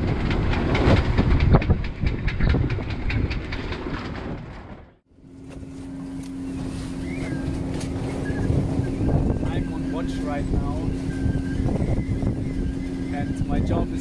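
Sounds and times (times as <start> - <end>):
wind rushing: 0.0 - 4.7, 7.4 - 14.0.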